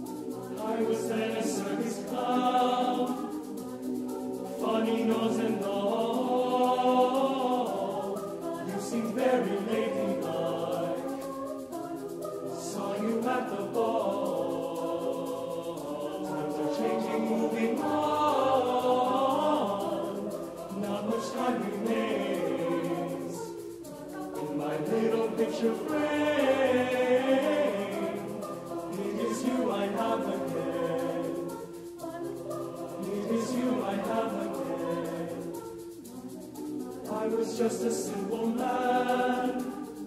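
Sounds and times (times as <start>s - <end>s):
choir singing unaccompanied: 0.0s - 40.0s.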